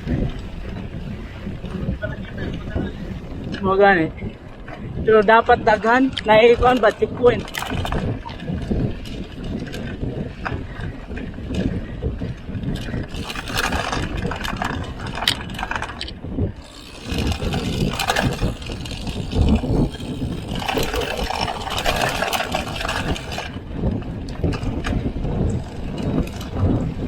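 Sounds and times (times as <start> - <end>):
bike rattling: 0.0 - 27.0
constant low rumble: 0.0 - 27.0.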